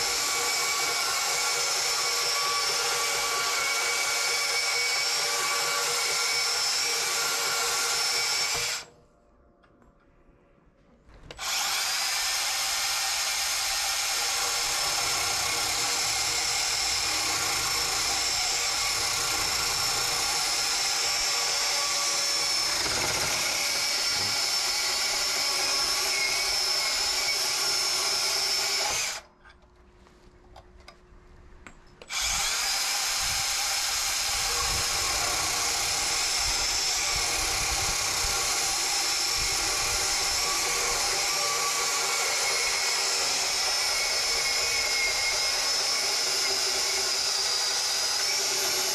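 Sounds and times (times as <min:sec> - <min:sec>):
band saw cutting metal pipe: 0:00.0 - 0:08.9, 0:11.4 - 0:29.3, 0:32.1 - 0:48.9.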